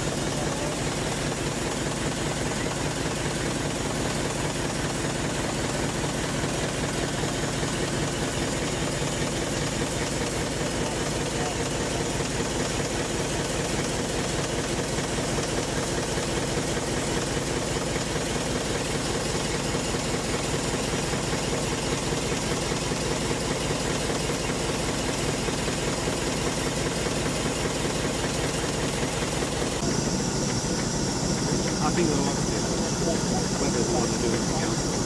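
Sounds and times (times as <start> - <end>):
steam engine running: 0.0 - 35.0.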